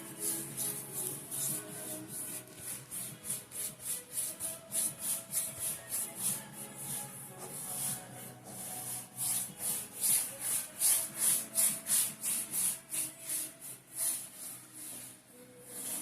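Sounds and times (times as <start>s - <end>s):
brush sweeping over canvas: 0.0s - 16.0s
faint background music: 0.0s - 16.0s.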